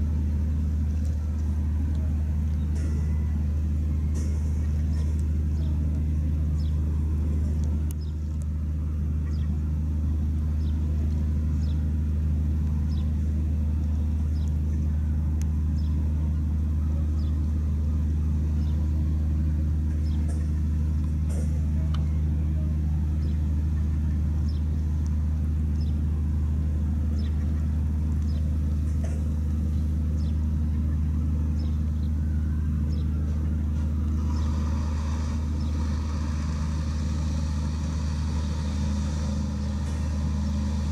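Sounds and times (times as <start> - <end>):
ship diesel generators droning: 0.0 - 40.9.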